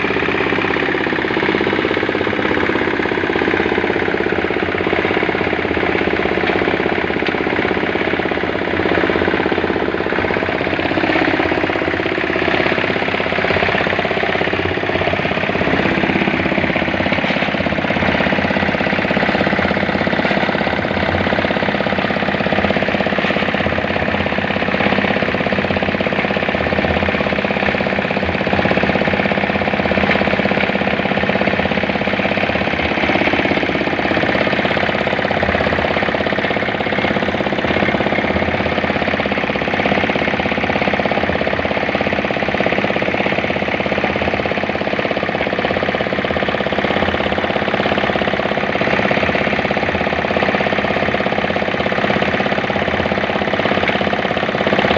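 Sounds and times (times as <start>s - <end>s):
diesel engine driving cement mixer: 0.0s - 54.9s.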